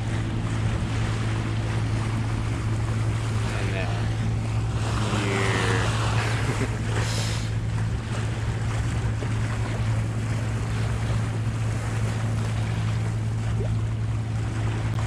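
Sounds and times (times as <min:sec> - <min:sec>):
boat engine droning: 0:00.0 - 0:15.0
water rushing along hull: 0:00.0 - 0:15.0.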